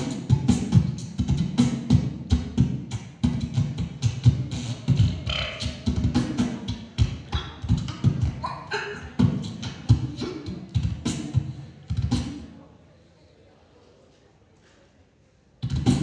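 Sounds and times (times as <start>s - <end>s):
beatboxing into a microphone: 0.0s - 12.6s, 15.6s - 16.0s.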